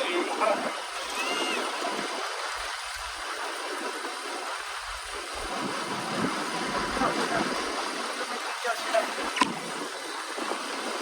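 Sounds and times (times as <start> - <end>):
boat rushing through water: 0.0 - 11.0.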